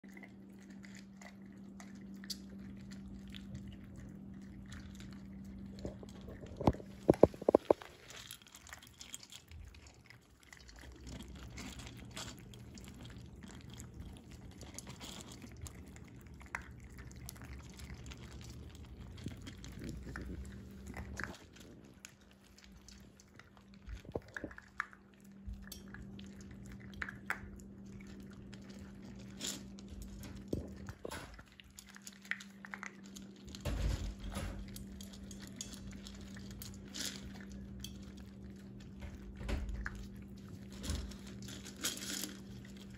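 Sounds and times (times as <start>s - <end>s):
low steady hum: 0.0s - 42.9s
puppies crunching dry kibble: 0.0s - 42.9s.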